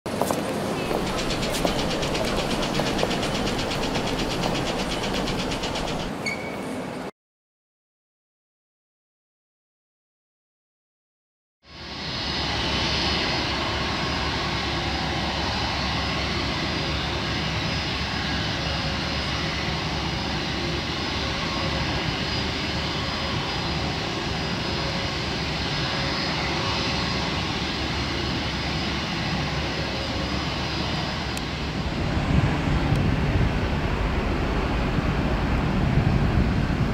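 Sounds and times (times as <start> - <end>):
jet engines running: 0.1 - 6.2, 11.7 - 36.9.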